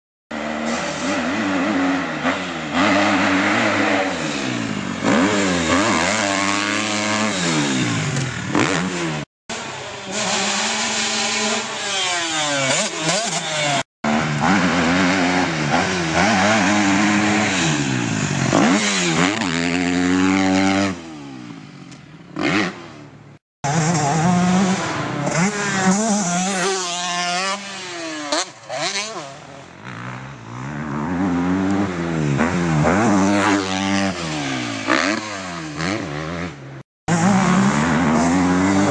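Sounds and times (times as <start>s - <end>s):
motorcycle engines revving: 0.3s - 38.9s.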